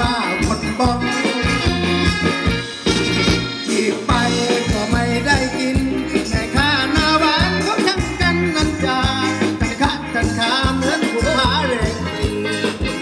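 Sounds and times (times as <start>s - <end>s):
band playing dance music: 0.0s - 13.0s
steady drum beat: 0.0s - 13.0s.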